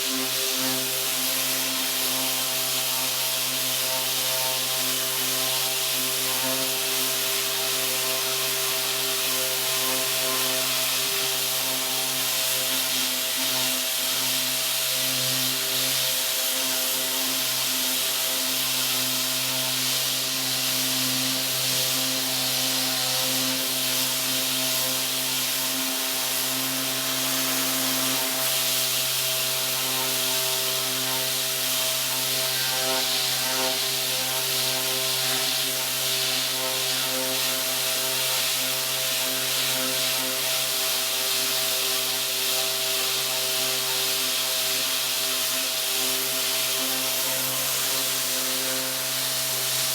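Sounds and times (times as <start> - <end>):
electric sander on wood: 0.0 - 49.9.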